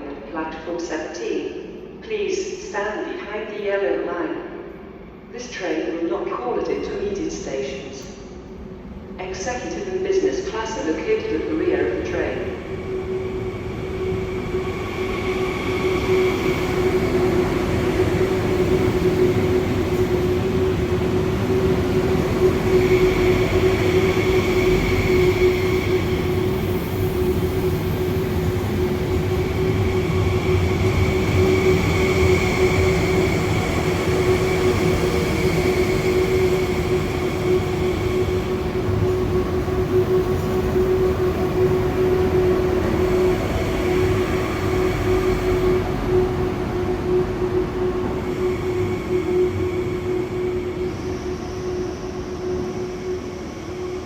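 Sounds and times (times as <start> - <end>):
electric train hum: 0.0 - 54.0.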